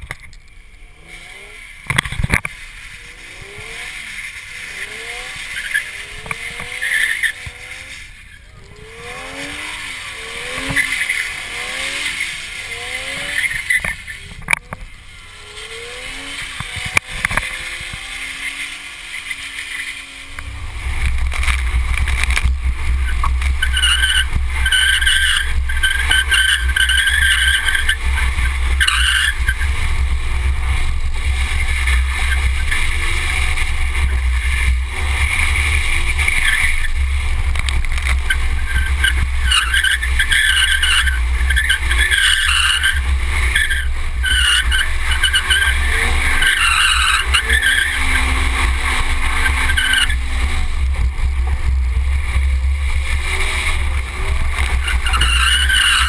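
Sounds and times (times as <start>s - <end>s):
car engine revving: 0.0s - 56.0s
close engine drone: 0.0s - 56.0s
tires squealing: 0.9s - 56.0s.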